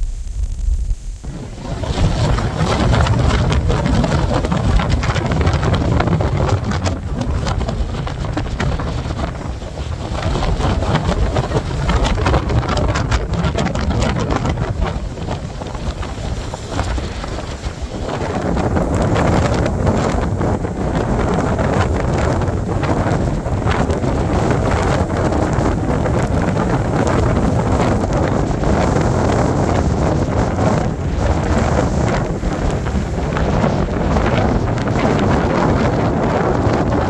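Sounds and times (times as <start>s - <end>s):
blizzard wind gusting: 0.0s - 37.0s.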